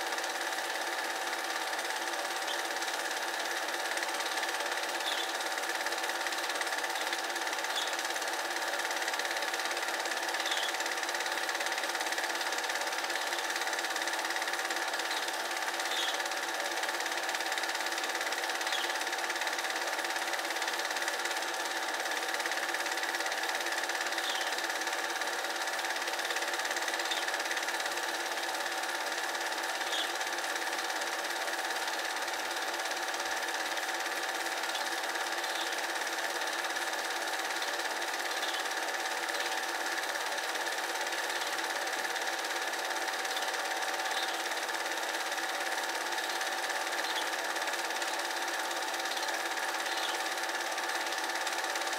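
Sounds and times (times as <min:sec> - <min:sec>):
film projector whirring: 0:00.0 - 0:51.9.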